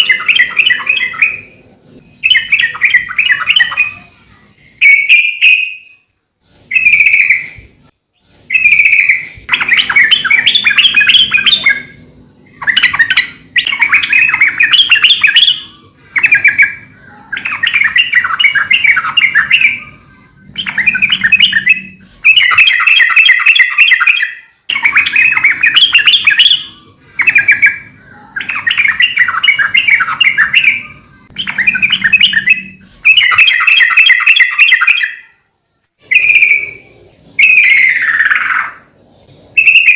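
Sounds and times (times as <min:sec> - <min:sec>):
bird singing rapid notes: 0:00.0 - 0:06.1, 0:06.7 - 0:35.4, 0:36.0 - 0:39.9.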